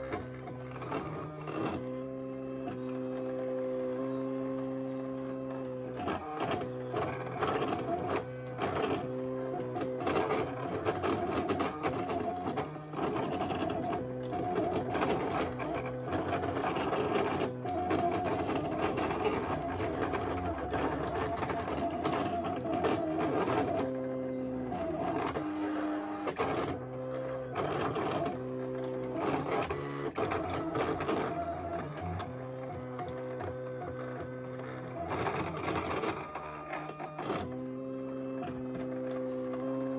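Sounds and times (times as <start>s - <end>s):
cutting machine motors whining: 0.0s - 39.9s.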